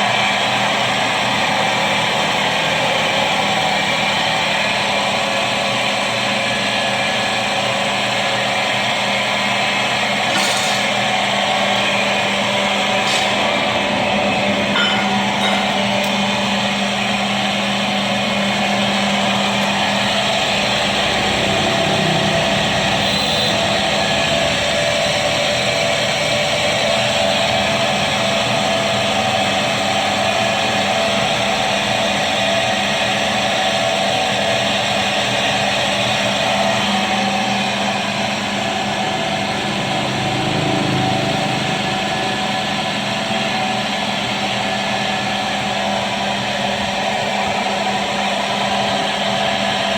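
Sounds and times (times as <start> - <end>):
stone drilling machine running: 0.0 - 49.9.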